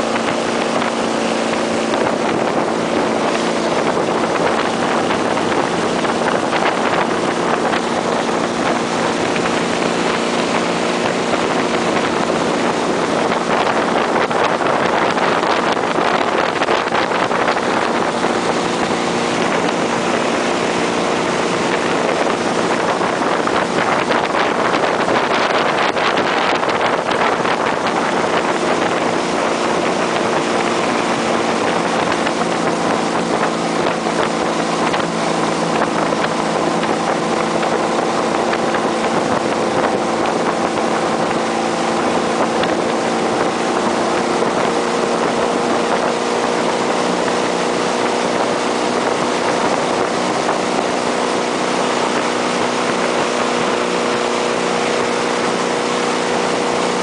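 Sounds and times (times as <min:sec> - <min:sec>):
boat engine humming: 0:00.0 - 0:57.0
rush of spray and wake: 0:00.0 - 0:57.0
wind on microphone: 0:00.0 - 0:57.0.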